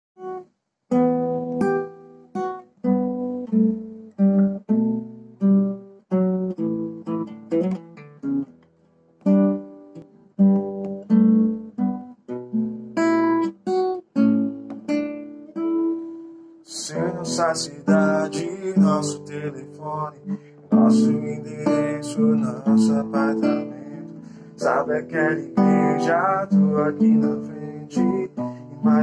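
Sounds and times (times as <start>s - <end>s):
classical guitar chords: 0.2s - 29.0s.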